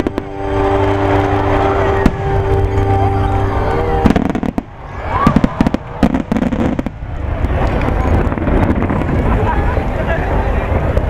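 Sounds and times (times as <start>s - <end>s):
fireworks bangs and crackles: 0.0s - 0.4s, 1.2s - 2.9s, 4.0s - 11.0s.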